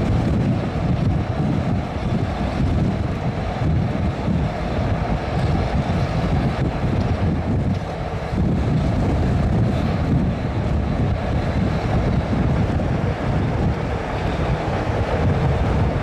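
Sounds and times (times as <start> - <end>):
train wheels rumbling on rails: 0.0 - 16.0
wind buffeting microphone: 0.0 - 16.0.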